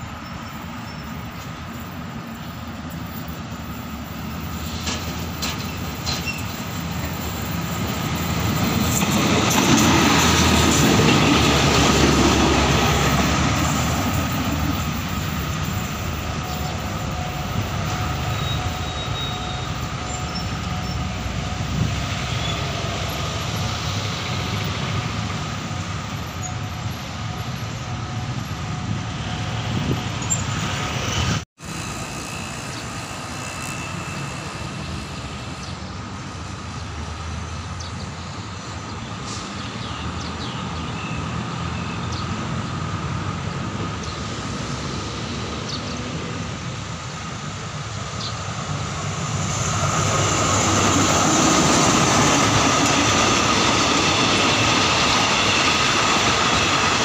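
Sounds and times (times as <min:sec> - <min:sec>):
diesel train passing: 0:00.0 - 0:57.0
rail and wheel noise: 0:00.0 - 0:57.0.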